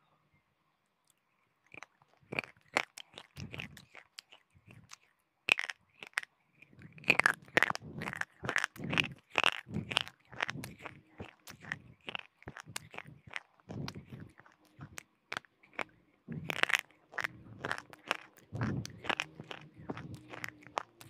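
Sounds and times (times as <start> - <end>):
crunching and chewing hard pieces: 1.6 - 21.0.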